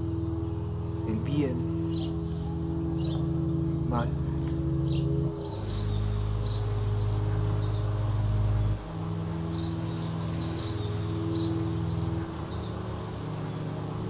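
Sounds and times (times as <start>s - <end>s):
low sustained drone: 0.0s - 14.0s.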